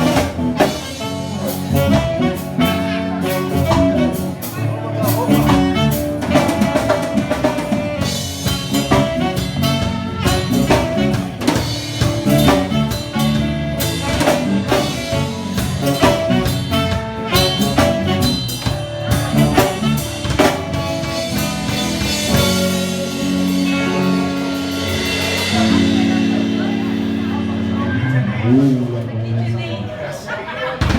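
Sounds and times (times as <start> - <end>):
drum kit steady beat: 0.0 - 27.8
band playing pop-rock: 0.0 - 29.0.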